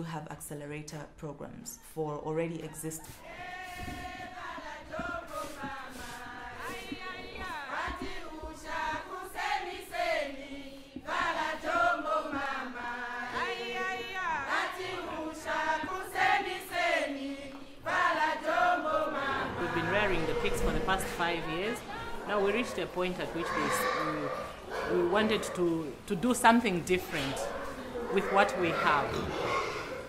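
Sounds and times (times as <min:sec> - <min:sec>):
voices singing a chant: 0:02.7 - 0:30.0.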